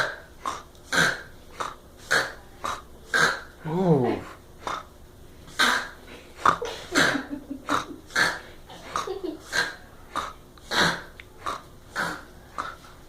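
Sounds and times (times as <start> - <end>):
snorting snoring: 0.0 - 4.9, 5.5 - 13.0.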